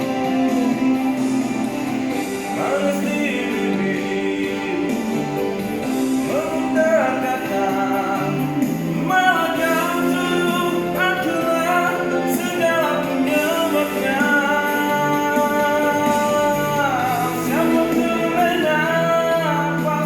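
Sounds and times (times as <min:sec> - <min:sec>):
person singing long notes: 0:02.6 - 0:20.0.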